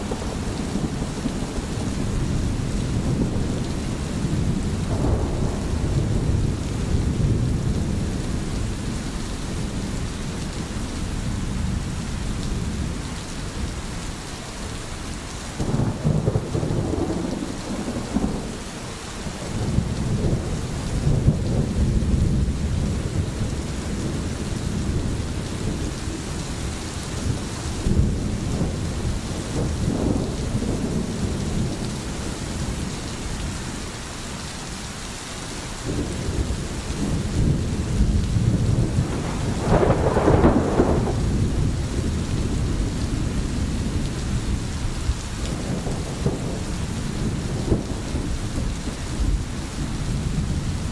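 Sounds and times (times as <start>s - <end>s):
rolling thunder: 0.0s - 13.8s, 15.6s - 33.8s, 35.8s - 50.9s
rain falling: 0.0s - 50.9s.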